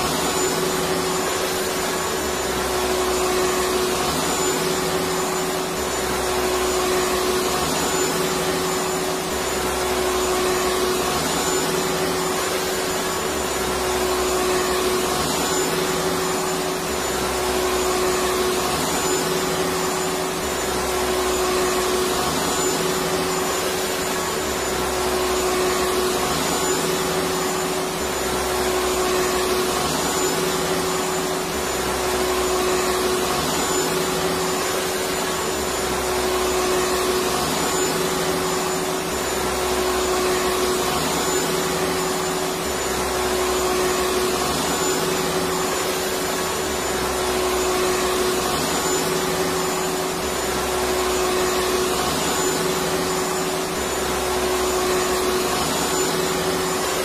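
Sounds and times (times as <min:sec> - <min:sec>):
vacuum cleaner motor running: 0:00.0 - 0:57.0.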